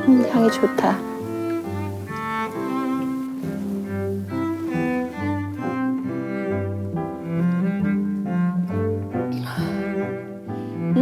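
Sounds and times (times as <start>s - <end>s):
slow bowed-string music: 0.0s - 11.0s.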